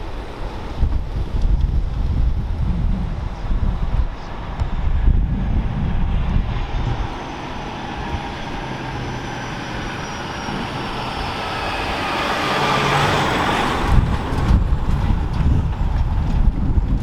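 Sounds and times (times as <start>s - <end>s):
wind buffeting microphone: 0.0s - 17.0s
heavy truck passing: 2.4s - 17.0s.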